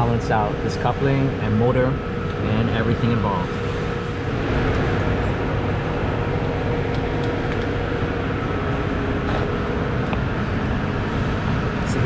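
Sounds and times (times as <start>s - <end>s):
broad even noise: 0.0s - 12.0s
machinery low hum: 0.0s - 12.0s.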